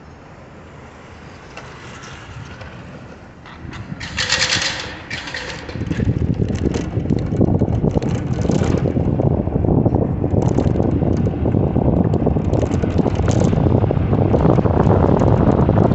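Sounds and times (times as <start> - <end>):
street traffic: 0.0 - 15.9
wind buffeting microphone: 1.8 - 15.9.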